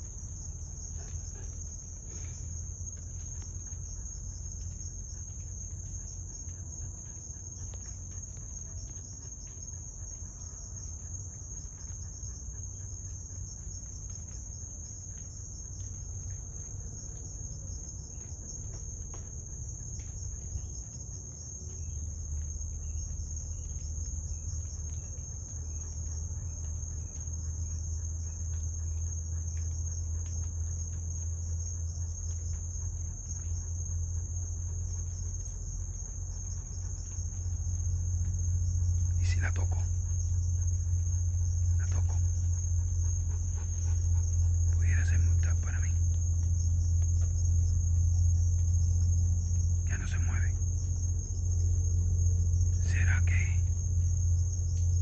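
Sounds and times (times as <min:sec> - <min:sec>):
crickets trilling: 0:00.0 - 0:55.0
low hum: 0:00.0 - 0:55.0.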